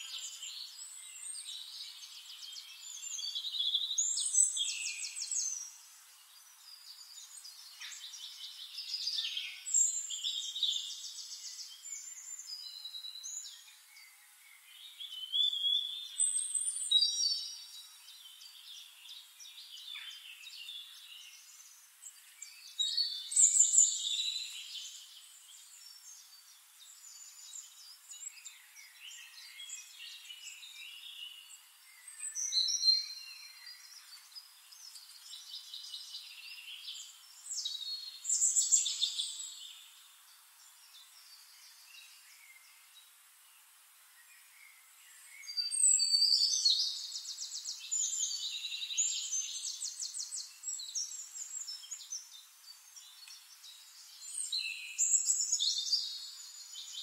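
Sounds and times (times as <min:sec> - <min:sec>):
birds chirping and trilling: 0:00.0 - 0:57.0
faint hiss: 0:00.0 - 0:57.0.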